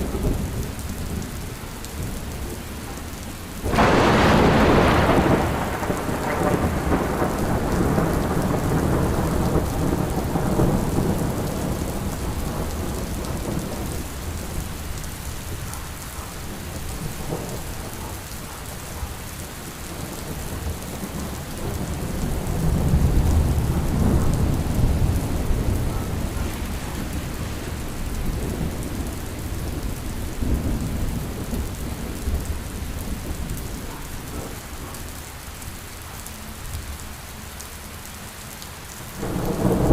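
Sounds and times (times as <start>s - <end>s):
steady rain: 0.0s - 39.9s
rolling thunder: 3.6s - 34.9s, 39.2s - 39.9s.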